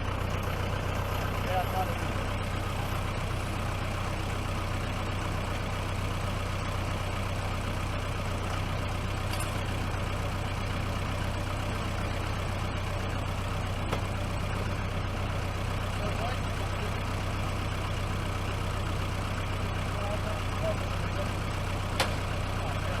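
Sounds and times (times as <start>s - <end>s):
tractor engine idling: 0.0s - 23.0s.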